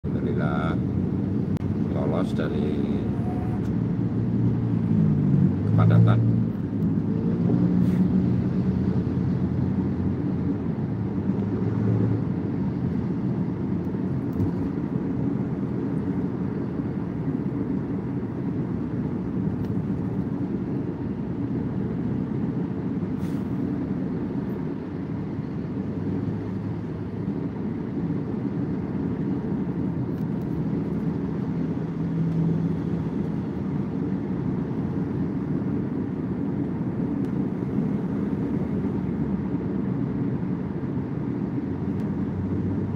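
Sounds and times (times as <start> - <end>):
car engine and tyre drone: 0.0 - 42.9.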